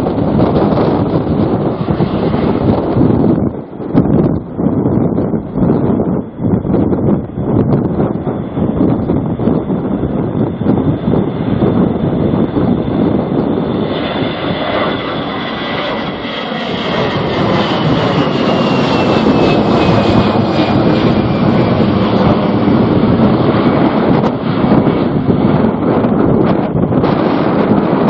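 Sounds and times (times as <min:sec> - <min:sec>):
jet engines rushing past: 0:00.0 - 0:28.0
high whine falling in pitch: 0:01.2 - 0:27.2.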